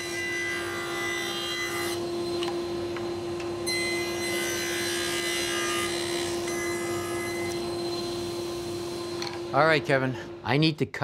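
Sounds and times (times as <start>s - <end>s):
table saw motor hum: 0.0s - 10.1s.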